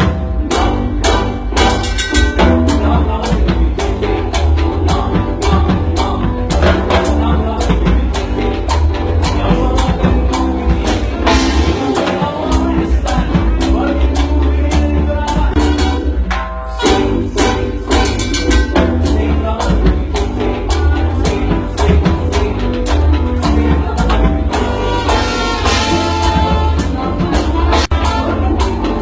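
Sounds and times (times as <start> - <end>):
drums and hand percussion: 0.0 - 29.0
heavy bass: 0.0 - 29.0
latin dance band music: 0.0 - 29.0.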